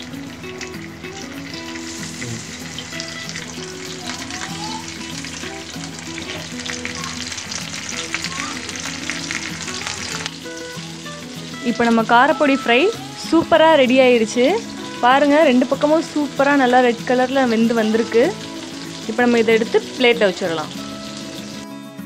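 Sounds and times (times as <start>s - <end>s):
fish sizzling in hot oil: 0.0s - 21.8s.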